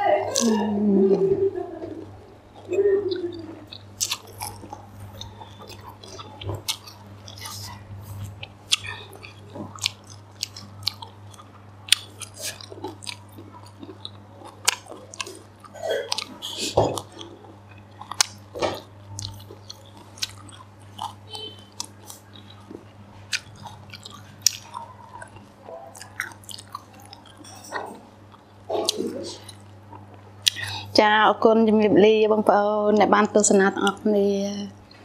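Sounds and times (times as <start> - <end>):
person chewing food: 0.3 - 30.9.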